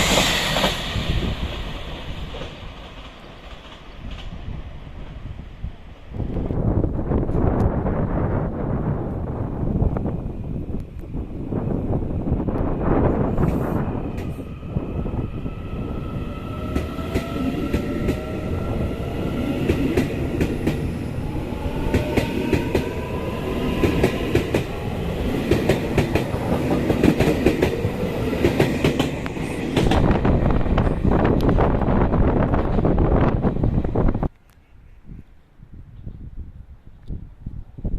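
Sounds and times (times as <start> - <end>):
train rumble: 0.0 - 34.3.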